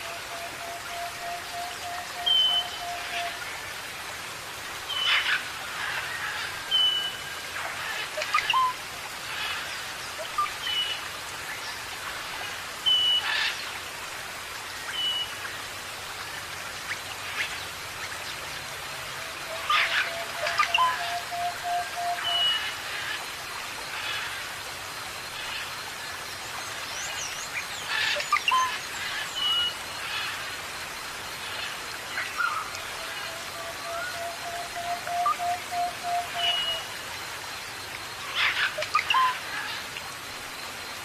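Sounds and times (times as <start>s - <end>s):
falling water hiss: 0.0s - 41.0s.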